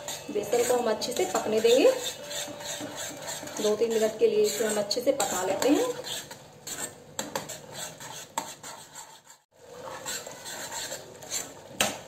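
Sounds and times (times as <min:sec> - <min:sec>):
metal spoon scraping a pan: 0:00.0 - 0:11.6.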